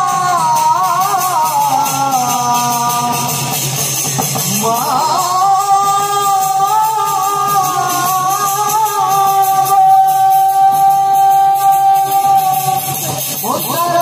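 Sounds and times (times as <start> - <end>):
live music over loudspeakers: 0.0 - 14.0.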